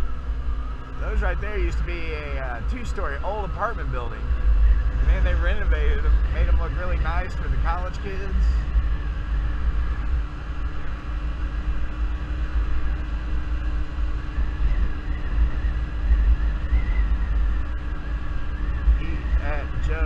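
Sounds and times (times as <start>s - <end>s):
scooter engine droning: 0.0s - 20.0s
wind rumble on microphone: 0.0s - 20.0s.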